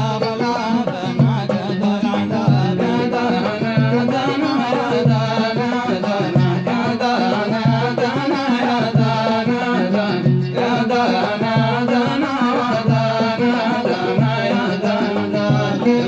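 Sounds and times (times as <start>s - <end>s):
steady drum beat: 0.0s - 16.0s.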